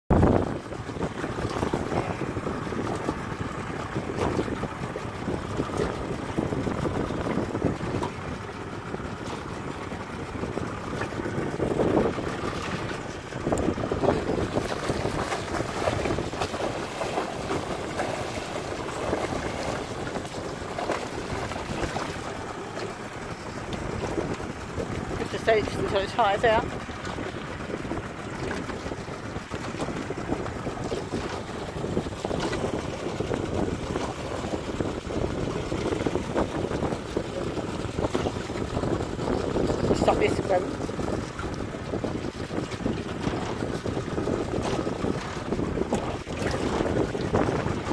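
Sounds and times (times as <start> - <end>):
water sloshing against boat hull: 0.1 - 47.9
wind buffeting microphone: 0.1 - 47.9.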